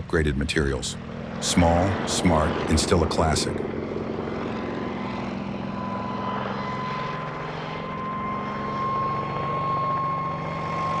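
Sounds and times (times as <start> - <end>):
helicopter engine and rotor drone: 0.0 - 11.0
high whine: 0.7 - 11.0.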